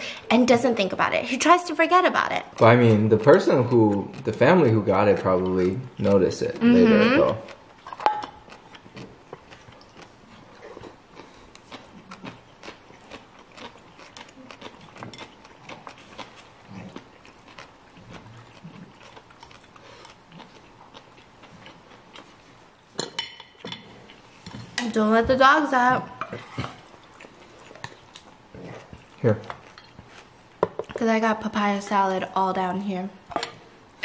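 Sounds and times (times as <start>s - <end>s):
chewing crunchy salad: 2.1s - 24.9s, 25.9s - 31.1s.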